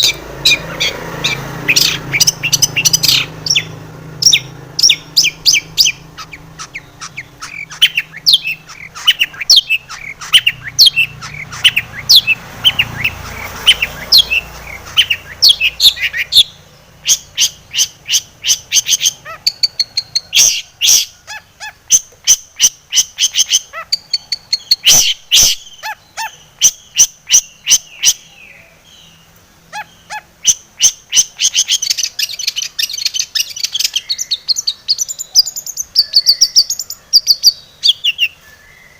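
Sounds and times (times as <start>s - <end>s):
shrike singing: 0.0s - 38.9s.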